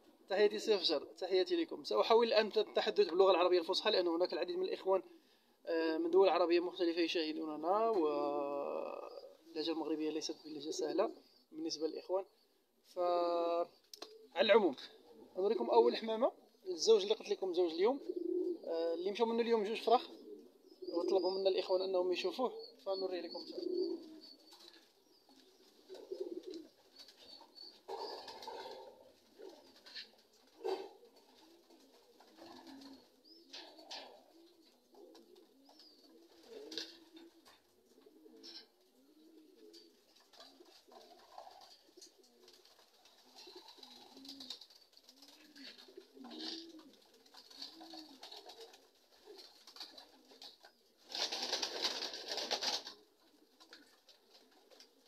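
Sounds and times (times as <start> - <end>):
pigeons cooing: 0.0 - 1.4, 2.6 - 7.0, 7.9 - 12.6, 13.2 - 55.0.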